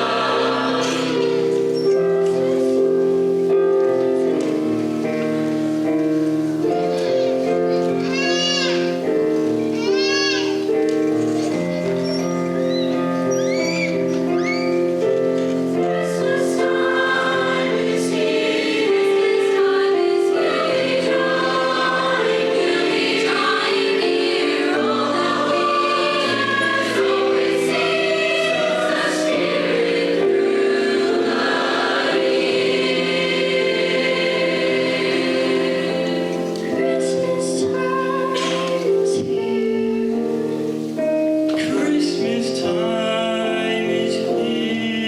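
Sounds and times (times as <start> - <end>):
choir singing in harmony: 0.0 - 8.0, 8.7 - 9.7, 10.4 - 45.0.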